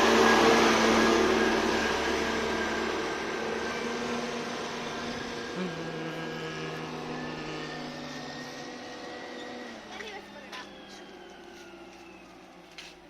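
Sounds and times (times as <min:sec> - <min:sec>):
construction machine engine running: 0:00.0 - 0:13.0.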